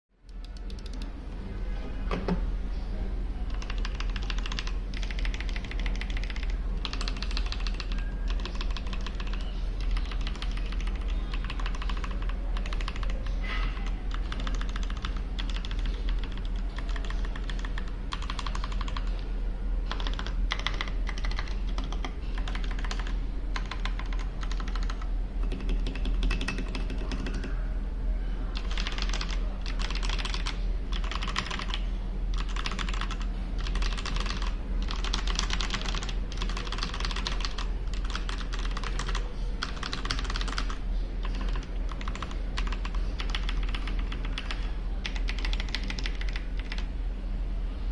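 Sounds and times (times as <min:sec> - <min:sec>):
mechanical keyboard typing: 0:00.3 - 0:01.1, 0:03.5 - 0:19.2, 0:19.9 - 0:27.5, 0:28.6 - 0:46.9.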